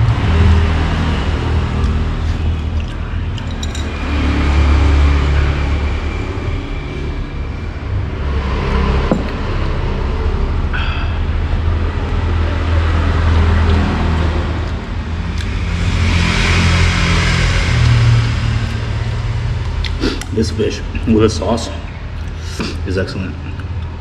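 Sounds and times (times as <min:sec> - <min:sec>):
vehicle passing: 0:00.0 - 0:22.3
road traffic rumble: 0:00.0 - 0:24.0.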